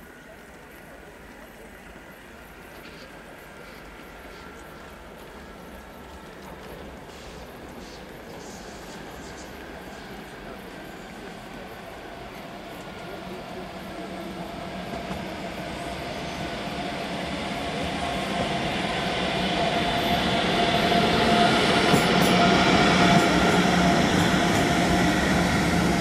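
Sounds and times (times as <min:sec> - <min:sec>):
train traction hum: 0:00.0 - 0:26.0
train wheels on rails: 0:00.0 - 0:26.0.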